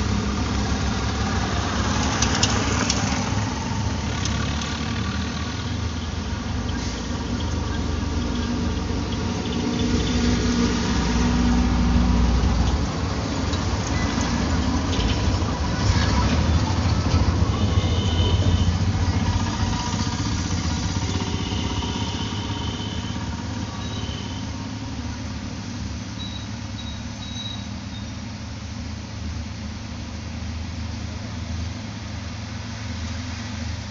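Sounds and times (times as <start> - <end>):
low engine-like rumble: 0.0 - 33.9.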